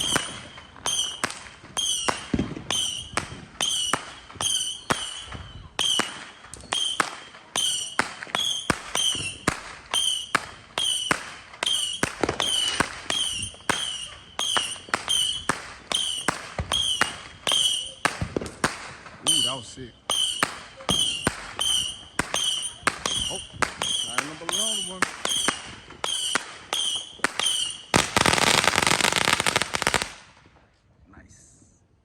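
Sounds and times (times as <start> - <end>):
fireworks bangs with high ring: 0.0 - 30.1.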